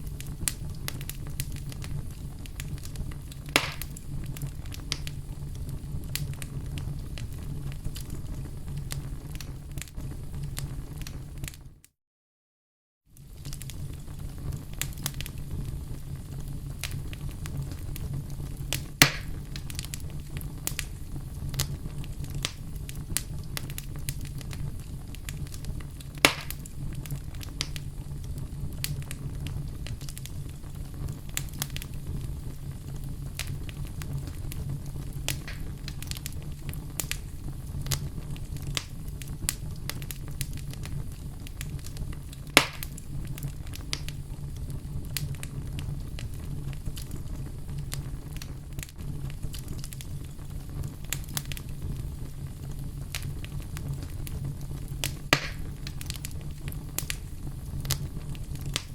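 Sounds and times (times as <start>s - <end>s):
loud pops of burning wood: 0.0s - 11.6s, 13.2s - 58.9s
wood fire crackling: 0.0s - 11.8s, 13.1s - 58.9s.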